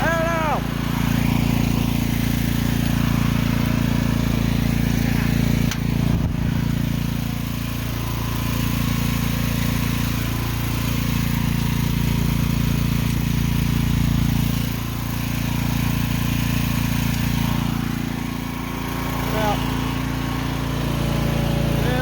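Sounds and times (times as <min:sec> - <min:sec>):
mini excavator engine running: 0:00.0 - 0:22.0.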